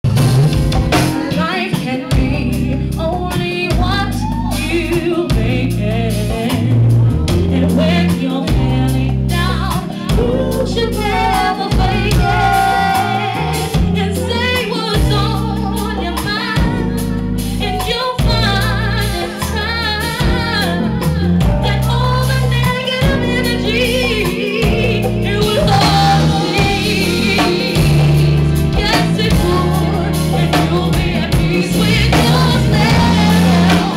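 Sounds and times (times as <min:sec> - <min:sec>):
live band with heavy bass: 0:00.0 - 0:33.9
person singing: 0:01.2 - 0:33.9.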